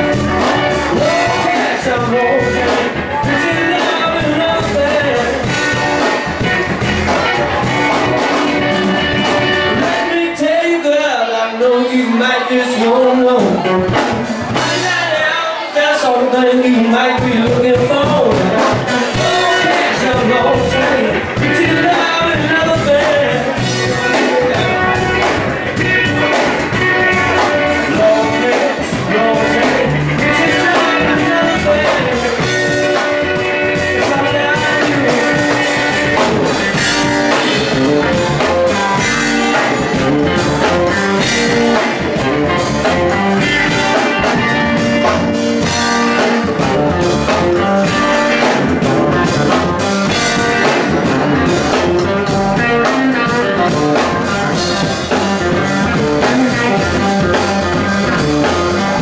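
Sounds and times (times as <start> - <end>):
blues-rock band playing: 0.0 - 59.0.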